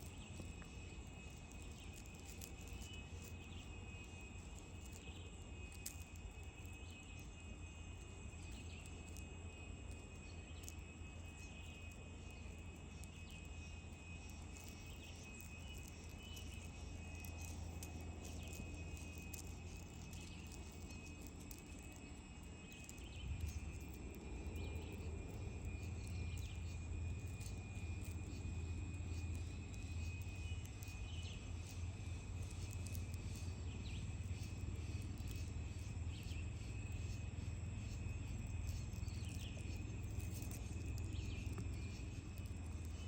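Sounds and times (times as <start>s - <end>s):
faint ticks: 0.0s - 7.3s, 8.3s - 43.0s.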